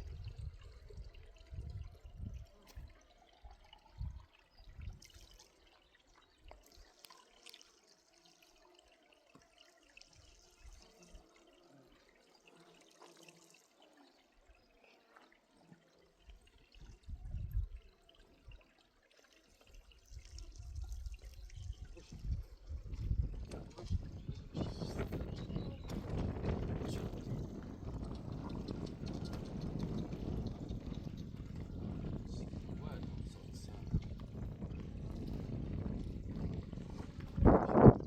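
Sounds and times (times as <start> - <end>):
faint trickling water: 0.0 - 38.0.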